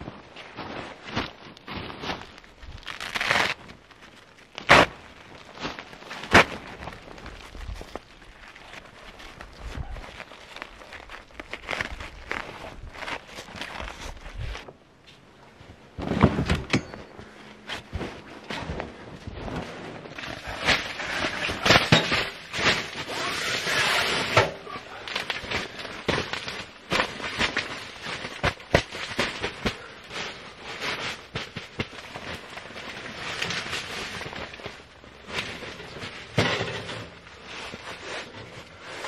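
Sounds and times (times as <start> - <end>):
crunching and rustling: 0.0 - 39.0.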